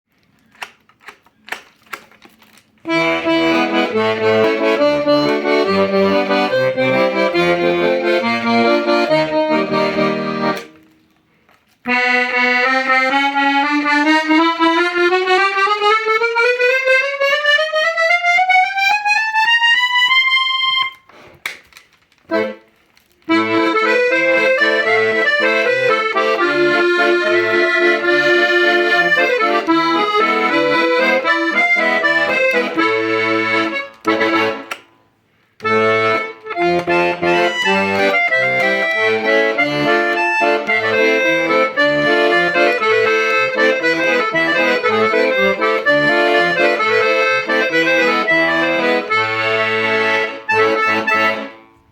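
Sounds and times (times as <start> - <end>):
accordion playing: 2.8 - 11.1, 11.8 - 21.2, 22.3 - 51.9.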